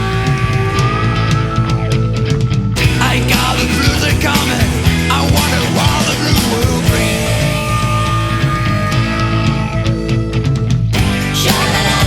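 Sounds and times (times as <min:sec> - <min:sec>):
drum hits: 0:00.0 - 0:12.0
electric guitar chord: 0:00.0 - 0:12.0.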